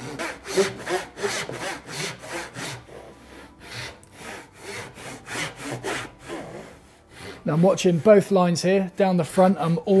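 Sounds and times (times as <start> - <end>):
hand saw cutting wood: 0.0 - 8.7.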